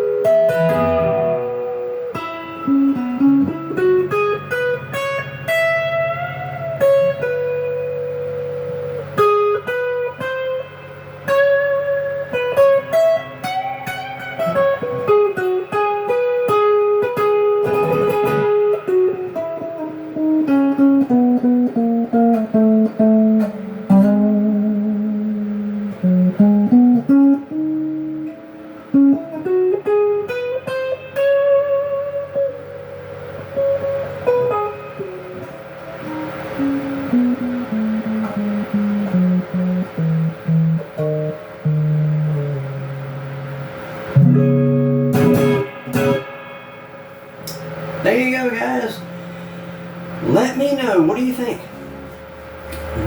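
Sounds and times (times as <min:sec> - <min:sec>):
overdriven electric guitar lead: 0:00.0 - 0:50.2.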